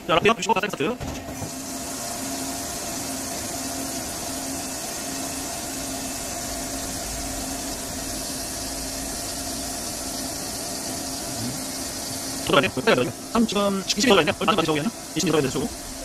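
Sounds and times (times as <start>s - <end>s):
coolant spraying hiss: 0.0s - 16.0s
lathe running: 0.0s - 16.0s
pulsing low hum: 1.3s - 16.0s.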